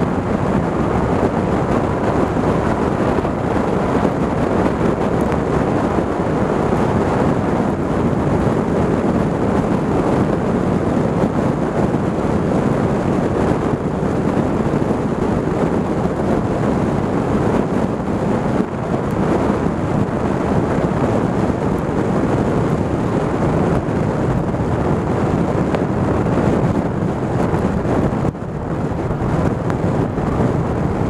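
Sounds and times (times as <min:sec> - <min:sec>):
motorcycle engine: 0:00.0 - 0:31.0
road noise: 0:00.0 - 0:31.0
wind rushing over microphone: 0:00.0 - 0:31.0.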